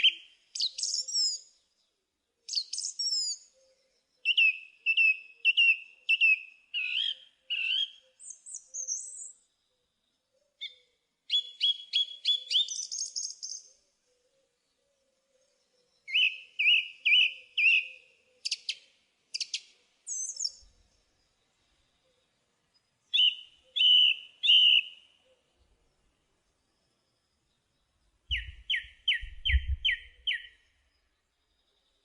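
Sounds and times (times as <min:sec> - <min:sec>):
songbirds singing whistled phrases: 0:00.0 - 0:01.7, 0:02.5 - 0:09.5, 0:10.5 - 0:14.8, 0:15.4 - 0:21.5, 0:22.2 - 0:25.6, 0:27.8 - 0:32.0.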